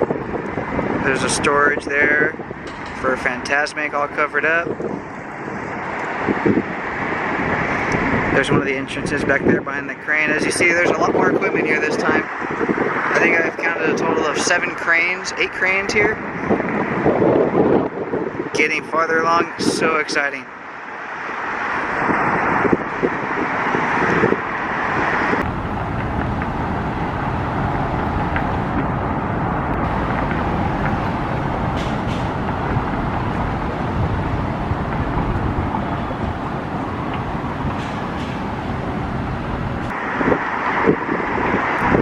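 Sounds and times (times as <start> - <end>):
wind on microphone: 0.0 - 20.2, 21.6 - 42.0
road traffic rumble: 0.0 - 42.0.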